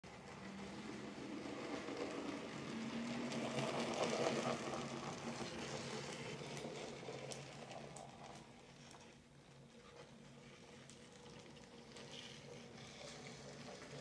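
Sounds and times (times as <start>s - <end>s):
wheels rumbling on rails: 0.0s - 14.0s
model train motor humming: 0.1s - 14.0s.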